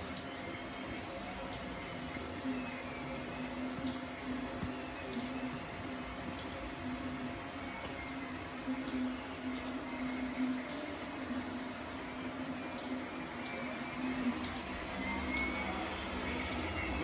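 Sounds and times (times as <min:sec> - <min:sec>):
stepper motors humming and whining: 0:00.0 - 0:17.0.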